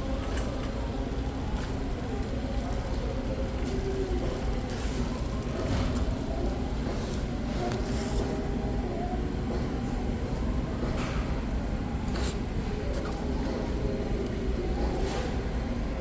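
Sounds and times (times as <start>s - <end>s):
low rumble of store: 0.0s - 16.0s.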